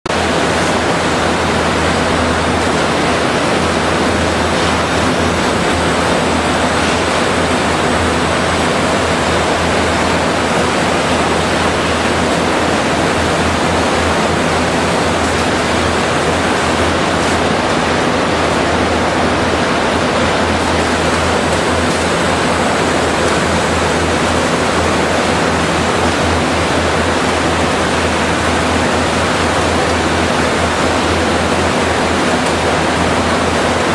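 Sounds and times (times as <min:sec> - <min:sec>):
loud rushing machinery din: 0:00.1 - 0:33.9.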